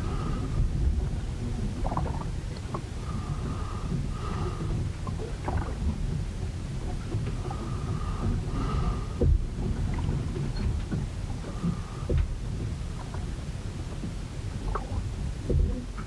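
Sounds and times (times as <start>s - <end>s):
wind and water rumble: 0.0s - 16.0s
ship knocks: 0.1s - 16.0s.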